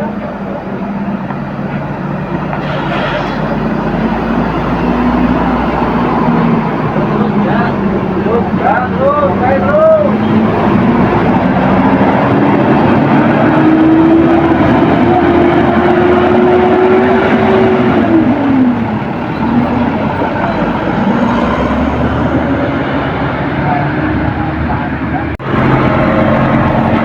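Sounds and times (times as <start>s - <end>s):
heavy vehicle engine revving: 0.0s - 27.0s
loud traffic noise: 0.0s - 27.0s.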